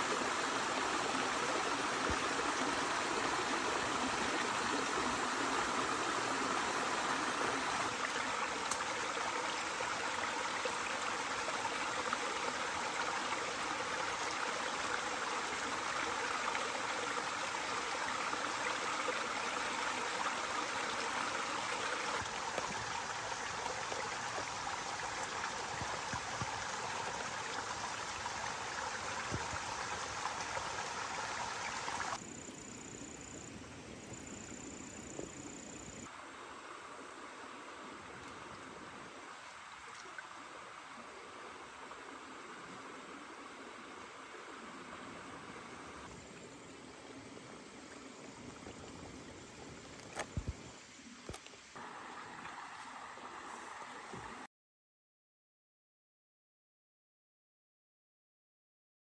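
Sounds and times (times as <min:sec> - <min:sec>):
stream flowing over rocks: 0:00.0 - 0:32.2, 0:35.1 - 0:54.5.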